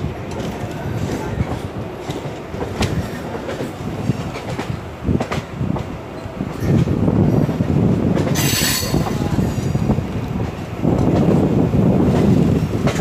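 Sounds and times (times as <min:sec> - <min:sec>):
rail joint clacks: 0:00.0 - 0:13.0
train wheels rumbling on rails: 0:00.0 - 0:13.0.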